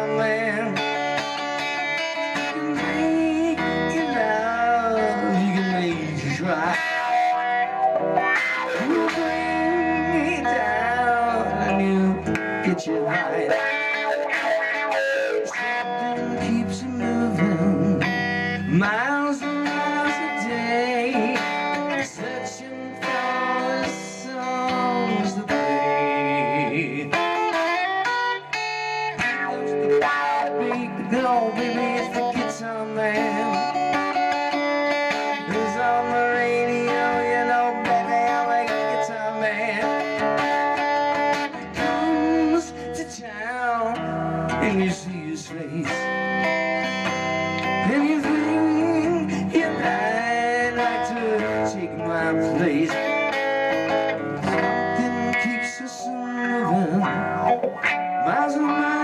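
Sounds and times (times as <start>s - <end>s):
electric guitar lead lines: 0.0s - 59.0s.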